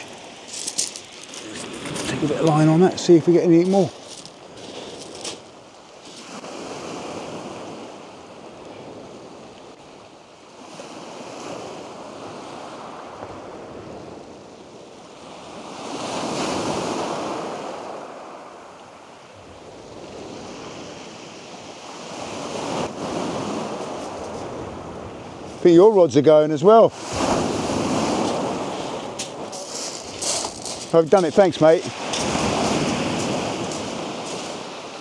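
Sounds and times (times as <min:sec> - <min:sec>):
waves breaking on shingle beach: 0:00.0 - 0:35.0.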